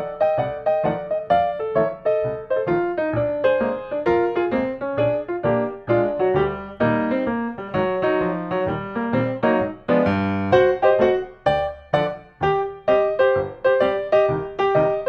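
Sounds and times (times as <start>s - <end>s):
lively piano music: 0.0s - 15.0s.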